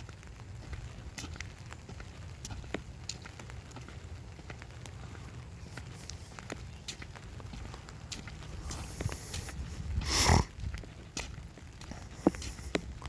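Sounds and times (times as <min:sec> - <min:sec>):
raindrops pattering: 0:00.0 - 0:13.0.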